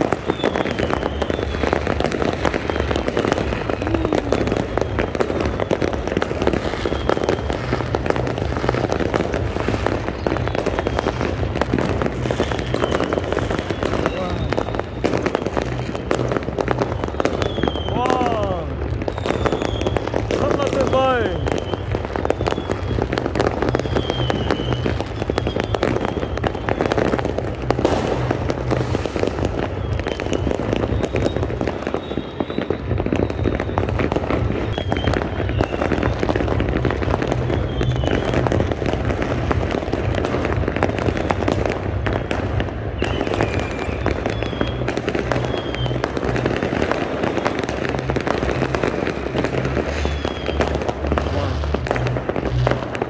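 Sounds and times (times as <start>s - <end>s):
firework whistles: 0.0s - 53.0s
fireworks bangs and crackling: 0.0s - 53.0s.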